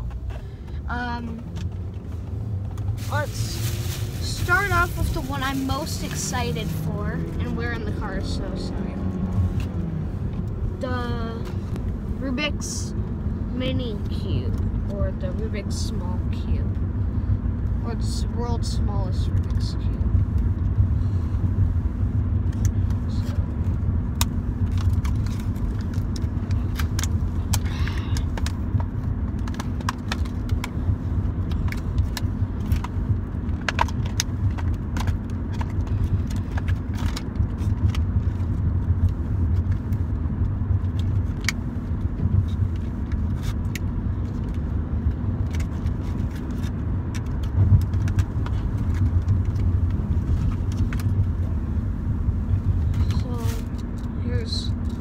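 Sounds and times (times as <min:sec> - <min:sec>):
car cabin road rumble: 0:00.0 - 0:55.0.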